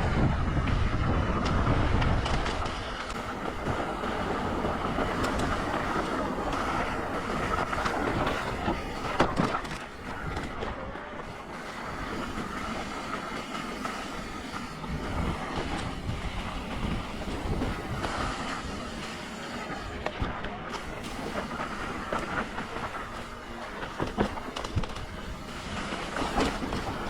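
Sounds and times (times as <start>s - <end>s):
bike tyre noise and rattle: 0.0s - 27.0s
wind buffeting microphone: 0.0s - 27.0s.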